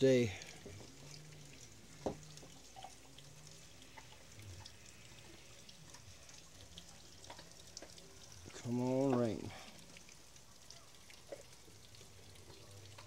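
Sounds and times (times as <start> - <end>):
raindrops on leaves: 0.0 - 13.0.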